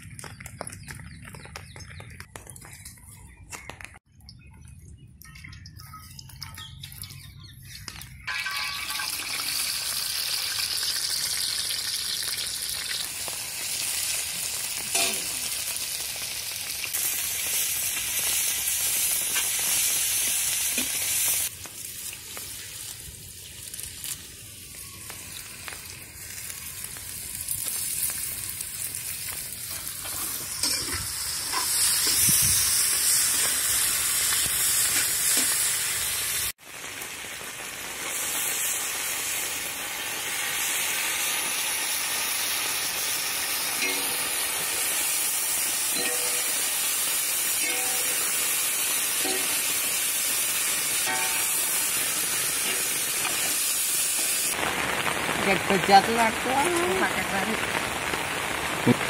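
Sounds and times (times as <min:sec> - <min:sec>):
onions sizzling in hot oil: 0:06.3 - 0:59.0.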